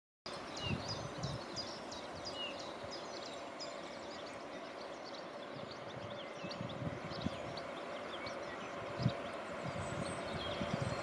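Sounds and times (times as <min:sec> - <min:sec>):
small birds chirping: 0:00.3 - 0:11.0
wind rumble on microphone: 0:00.3 - 0:11.0.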